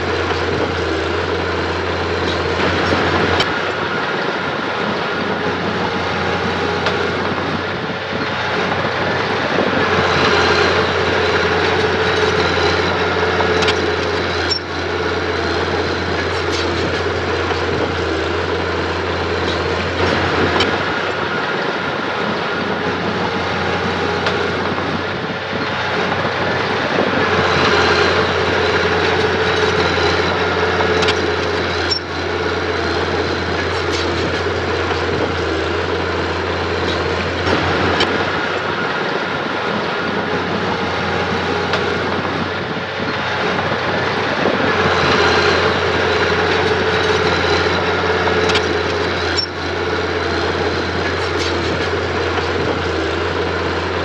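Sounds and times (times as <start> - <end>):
earthmoving machine engine running: 0.0 - 54.0.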